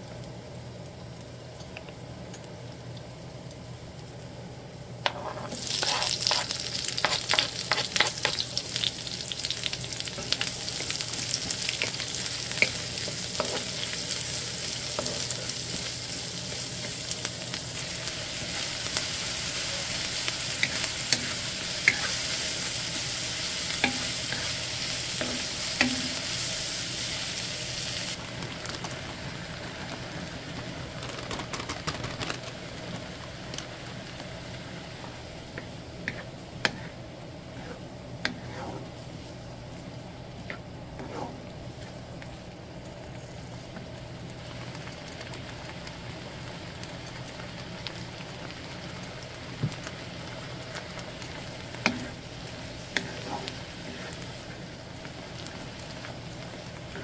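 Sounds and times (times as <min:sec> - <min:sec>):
vegetables sizzling in frying pan: 0:00.0 - 0:57.0.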